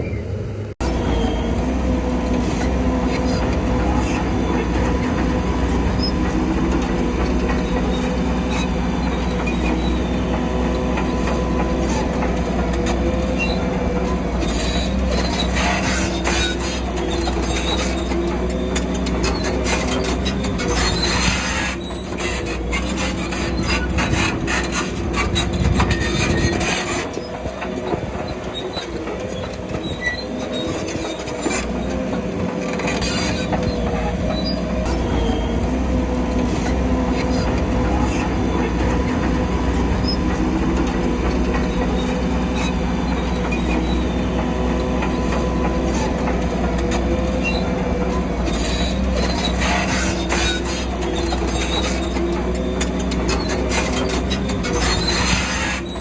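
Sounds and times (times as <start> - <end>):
diesel engine running: 0.0 - 56.0
metallic track whine: 0.0 - 56.0
clatter of clanks: 2.3 - 35.5, 36.3 - 56.0.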